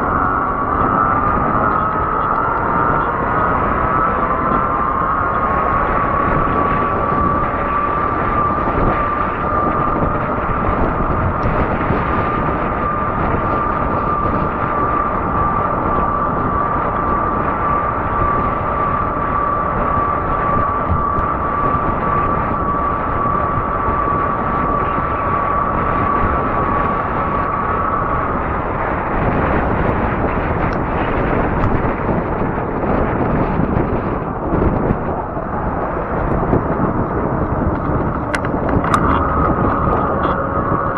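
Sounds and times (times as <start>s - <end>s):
e-bike motor whine: 0.0s - 40.9s
wind rushing on microphone: 0.0s - 40.9s.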